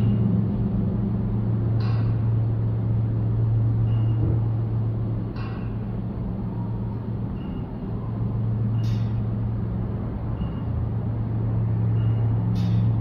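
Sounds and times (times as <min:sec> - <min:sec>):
train diesel engine humming: 0:00.0 - 0:13.0.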